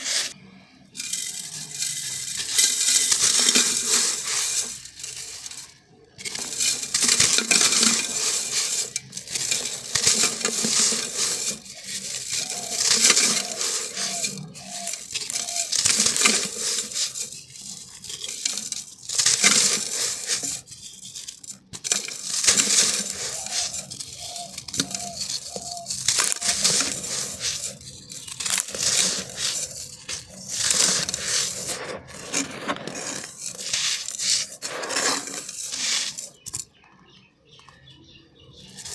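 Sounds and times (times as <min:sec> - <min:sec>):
grains scraping against pot: 0:00.0 - 0:36.8, 0:38.6 - 0:38.9.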